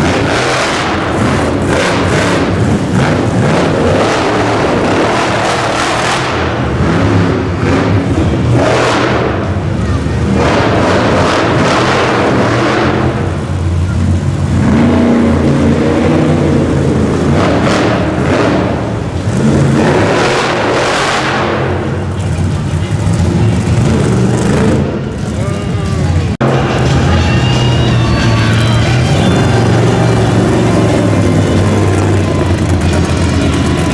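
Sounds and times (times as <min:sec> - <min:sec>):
monster truck engine revving: 0:00.0 - 0:33.9.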